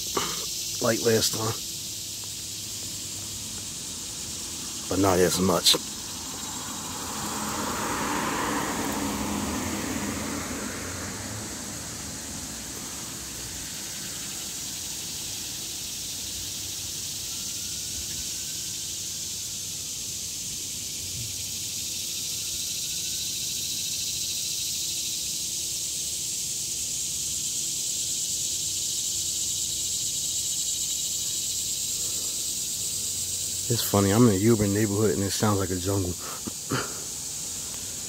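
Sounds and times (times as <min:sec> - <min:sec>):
cicadas buzzing: 0:00.0 - 0:38.0.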